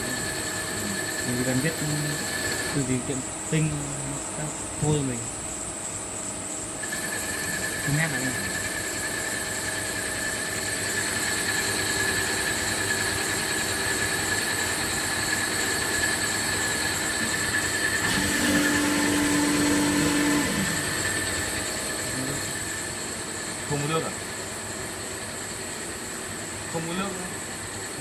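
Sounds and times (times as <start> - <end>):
cnc machine whining: 0.0 - 5.1, 6.8 - 28.0.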